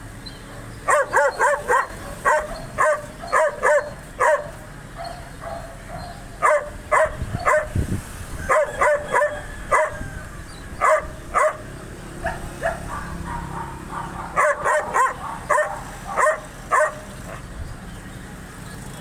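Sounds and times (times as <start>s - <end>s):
dog barking aggressively: 0.6s - 17.5s.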